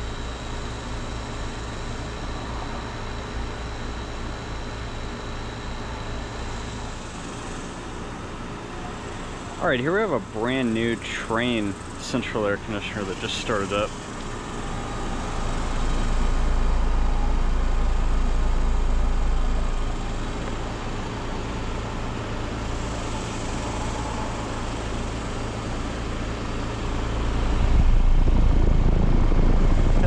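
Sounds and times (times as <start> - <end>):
air conditioner compressor hum: 0.0 - 30.0
condenser fan rushing air: 0.0 - 30.0.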